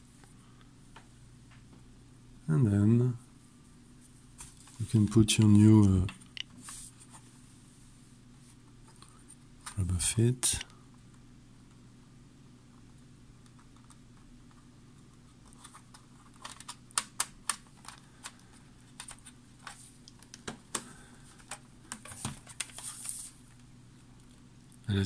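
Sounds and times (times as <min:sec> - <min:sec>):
faint room hum: 0:00.0 - 0:25.0.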